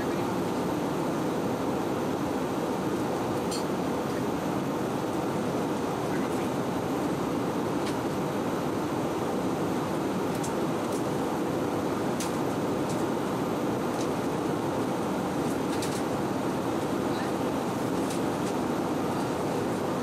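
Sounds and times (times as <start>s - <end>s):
aircraft cabin engine rush: 0.0s - 20.0s.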